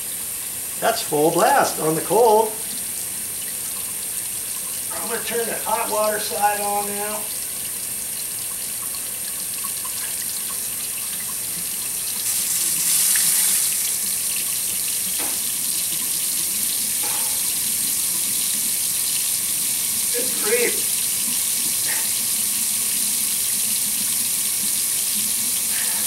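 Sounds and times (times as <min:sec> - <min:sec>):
water running into a sink: 0:00.0 - 0:26.0.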